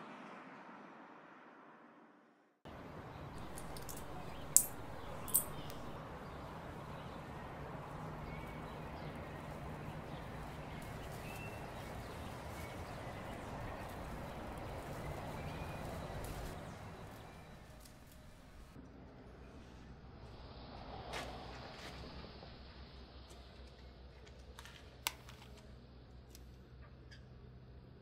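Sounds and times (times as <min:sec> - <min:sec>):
hum of traffic: 0:02.7 - 0:28.0.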